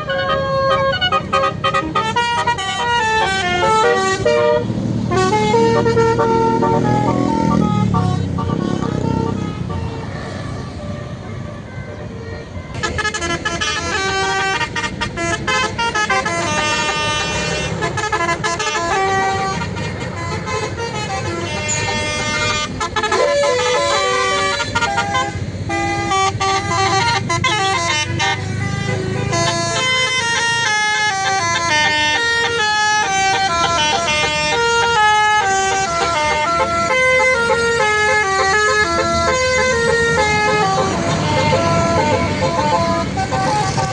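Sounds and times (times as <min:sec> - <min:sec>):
musical bus horn melody: 0:00.0 - 0:43.9.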